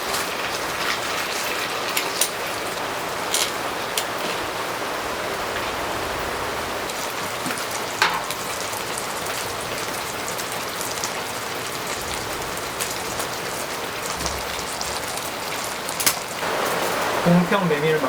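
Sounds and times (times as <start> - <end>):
rain falling on a tent: 0.0 - 18.0.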